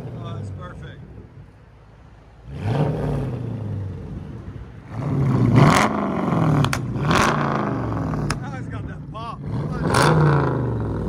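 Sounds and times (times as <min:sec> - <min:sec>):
car engine revving: 0:00.0 - 0:01.3, 0:02.1 - 0:11.0.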